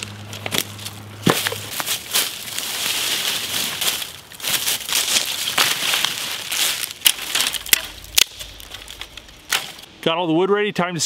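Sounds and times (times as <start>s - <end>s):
footsteps crunching dry leaves: 0.0s - 9.9s
sticks cracking: 0.0s - 9.9s.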